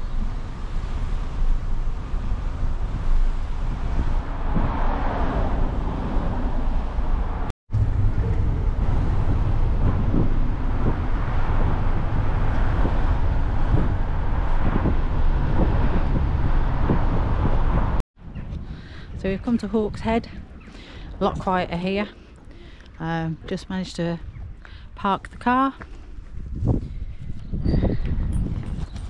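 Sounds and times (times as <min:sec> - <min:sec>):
car road and engine noise: 0:00.0 - 0:26.8.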